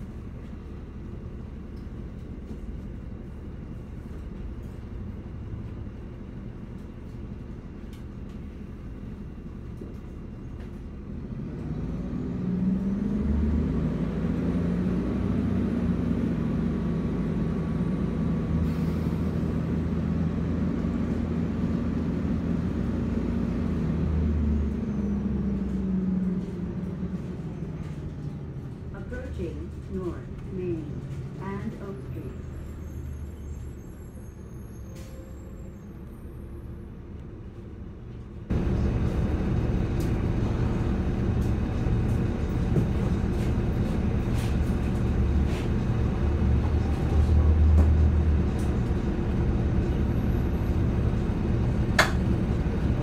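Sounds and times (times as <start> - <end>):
bus engine idling and revving: 0.0 - 53.0.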